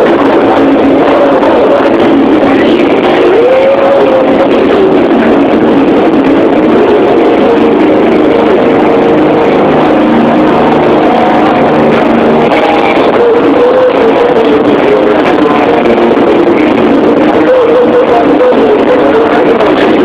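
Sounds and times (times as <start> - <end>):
distorted live rock band music: 0.0 - 20.0
voice-like line gliding in pitch: 0.0 - 20.0.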